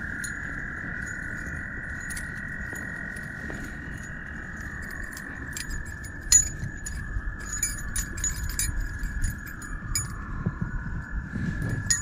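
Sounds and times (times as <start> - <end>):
steady high drone: 0.0 - 12.0.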